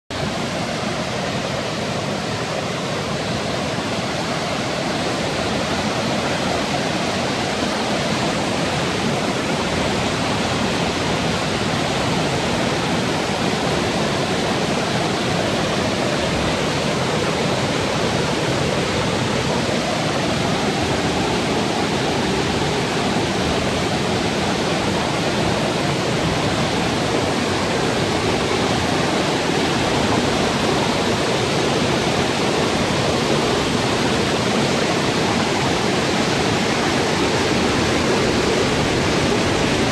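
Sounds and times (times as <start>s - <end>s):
mountain torrent rushing over boulders: 0.1s - 39.9s.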